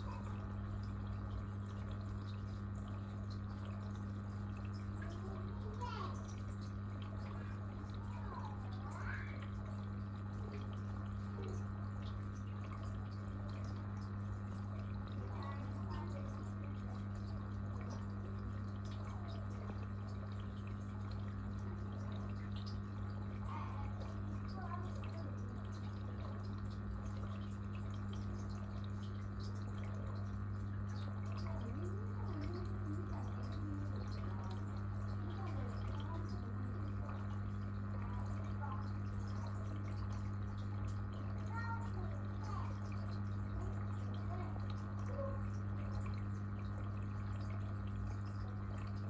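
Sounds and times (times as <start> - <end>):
aquarium pump humming: 0.0 - 49.0
bubble ticks: 0.0 - 49.0
water trickling and dripping: 0.0 - 49.0.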